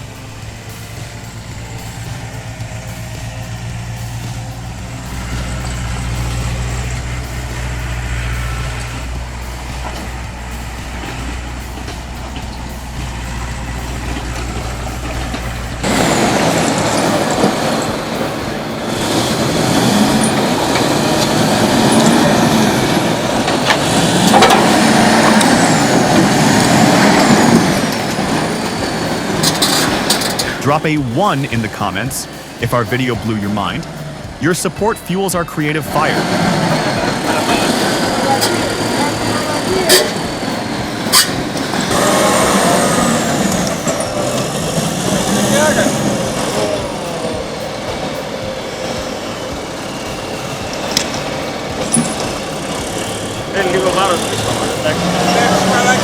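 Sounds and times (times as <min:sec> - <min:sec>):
diesel engine droning: 0:00.0 - 0:56.0
machine with high whines: 0:00.0 - 0:56.0.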